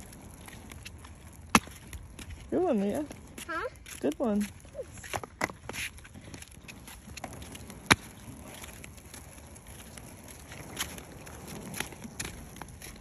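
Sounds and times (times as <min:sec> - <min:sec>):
roller skates rolling on asphalt: 0:00.0 - 0:13.0.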